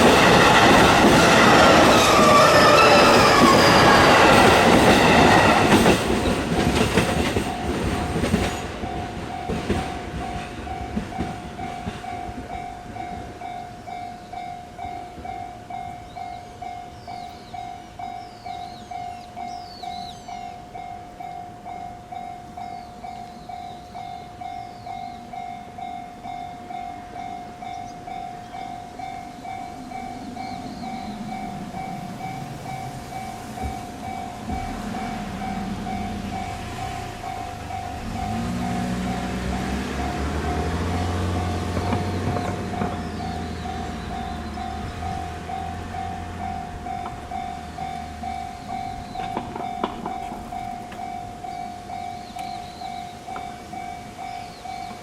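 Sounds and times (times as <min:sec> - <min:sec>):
low rumble of rail traffic: 0:00.0 - 0:55.0.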